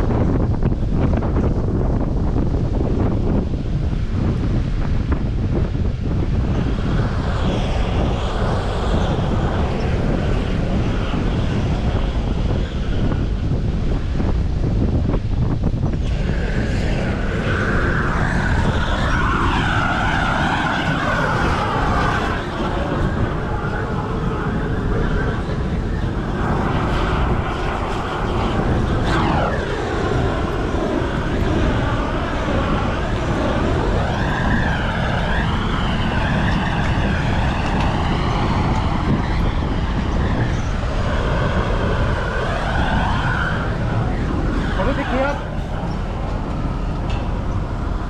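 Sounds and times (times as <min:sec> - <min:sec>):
falling whine: 0:00.0 - 0:48.0
jet engine rushing: 0:00.0 - 0:48.0
wind rumble on microphone: 0:00.0 - 0:48.0.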